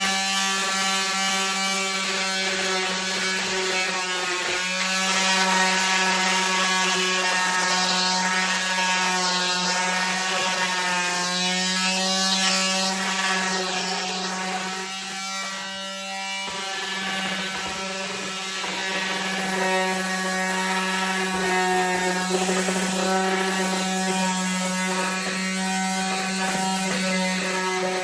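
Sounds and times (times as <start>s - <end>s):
power sander on wood: 0.0s - 28.0s.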